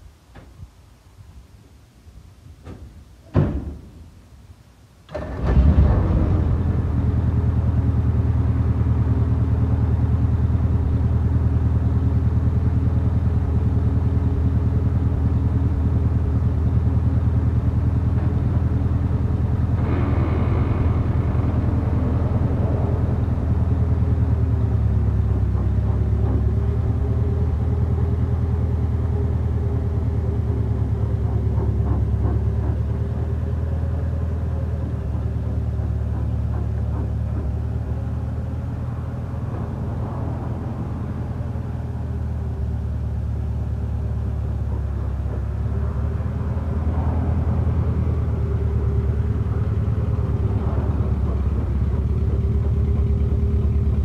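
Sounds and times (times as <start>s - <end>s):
rough engine burst: 5.1s - 54.0s
truck engine running: 5.2s - 54.0s.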